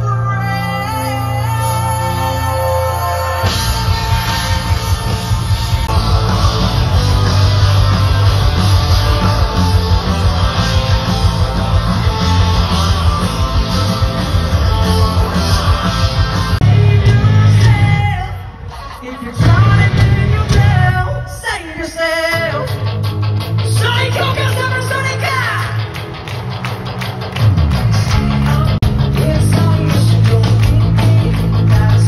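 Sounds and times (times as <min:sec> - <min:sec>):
rock band playing live: 0:00.0 - 0:32.0.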